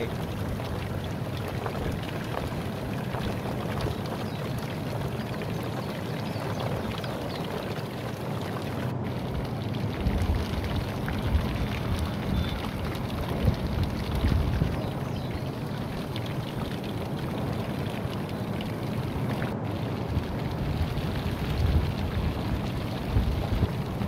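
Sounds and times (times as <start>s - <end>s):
steady rain patter: 0.0s - 24.0s
wind rumbling on microphone: 0.0s - 24.0s.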